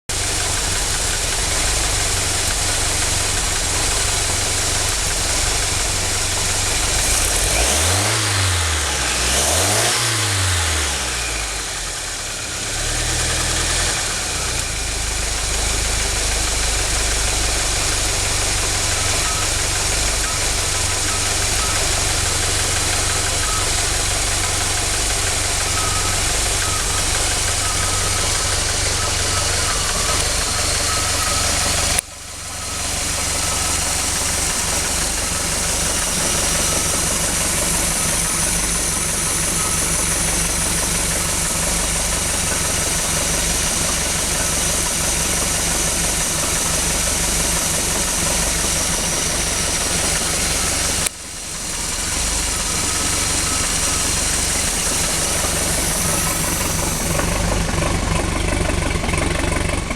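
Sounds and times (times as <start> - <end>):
boat engine idling rough: 0.0 - 8.0, 10.6 - 59.9.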